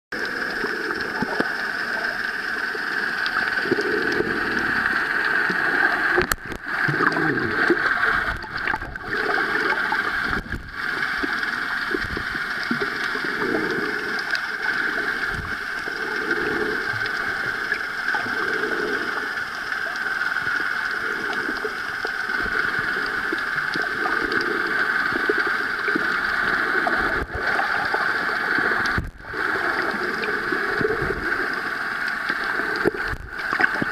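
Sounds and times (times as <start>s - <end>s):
steady hiss: 0.2s - 33.9s
water gurgling and sloshing: 0.2s - 33.9s.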